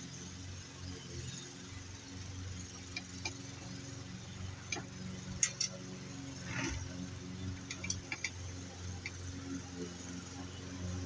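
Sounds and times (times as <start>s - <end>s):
lawn mower engine running: 1.5s - 11.0s.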